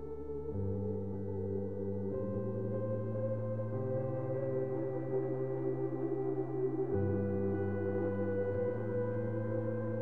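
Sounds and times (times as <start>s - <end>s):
ambient music with sustained chords: 0.0s - 10.0s.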